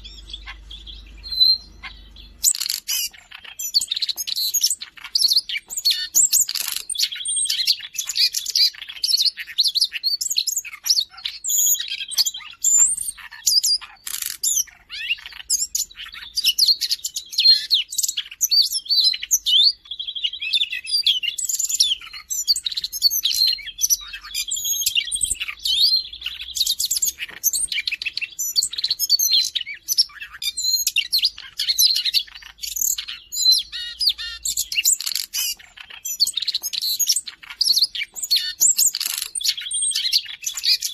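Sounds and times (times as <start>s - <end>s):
bird singing varied warble: 0.0s - 40.9s.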